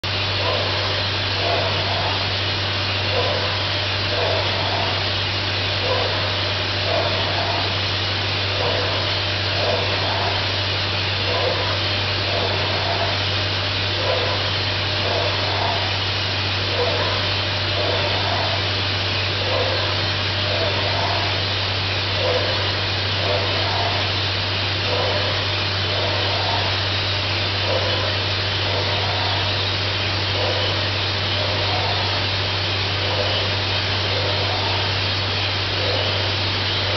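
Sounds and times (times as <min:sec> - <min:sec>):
spray gun hissing: 0:00.1 - 0:36.9.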